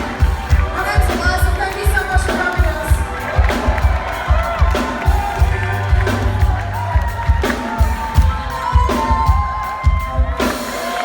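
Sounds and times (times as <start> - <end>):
crowd cheering: 0.0 - 11.0
live band music: 0.0 - 11.0.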